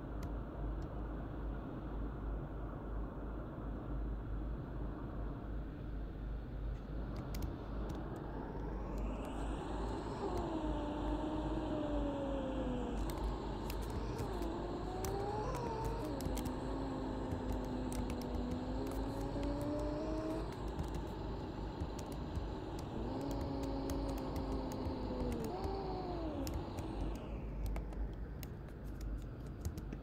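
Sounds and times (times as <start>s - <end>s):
bus engine rumble and whine: 4.6s - 30.0s.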